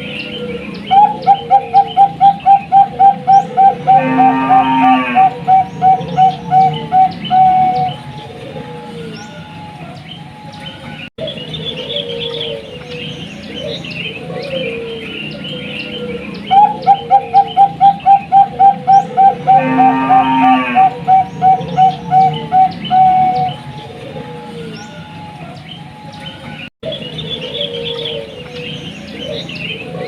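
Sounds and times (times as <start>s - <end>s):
small birds chirping: 0.0s - 4.1s, 5.2s - 19.8s, 20.8s - 30.0s
dove cooing: 0.0s - 10.5s, 11.2s - 30.0s.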